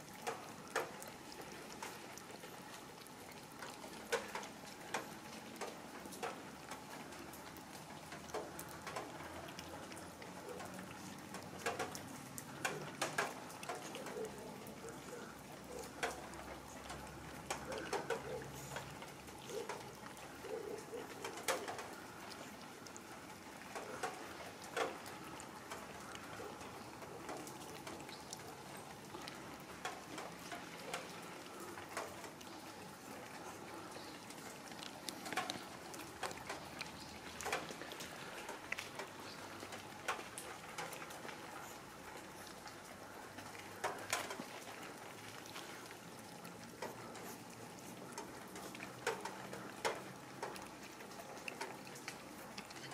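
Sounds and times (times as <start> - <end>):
cats chewing food: 0.0 - 52.9.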